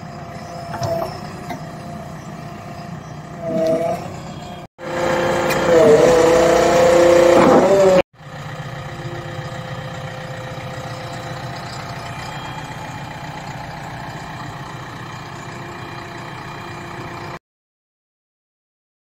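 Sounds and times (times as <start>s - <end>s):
diesel engine working and idling: 0.0s - 17.4s
whining tone: 0.0s - 17.4s.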